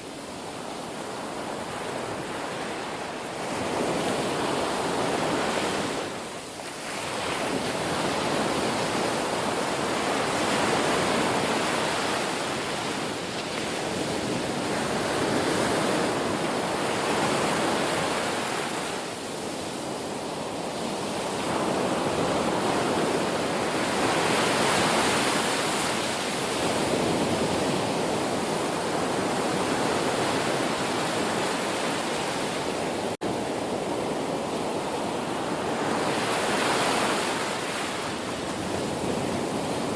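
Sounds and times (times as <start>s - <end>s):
waves washing ashore: 0.0s - 39.9s.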